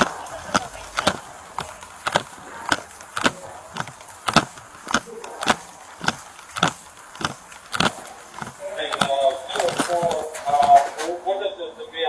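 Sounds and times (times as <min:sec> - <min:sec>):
footsteps walking: 0:00.0 - 0:11.3.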